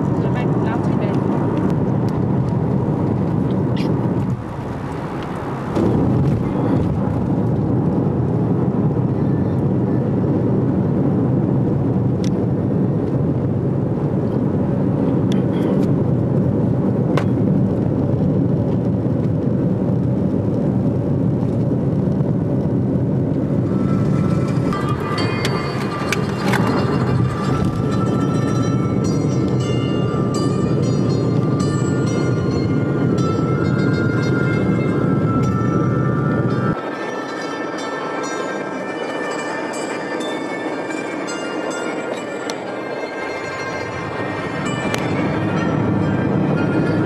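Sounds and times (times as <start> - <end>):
car road and wind noise: 0.0 - 47.0.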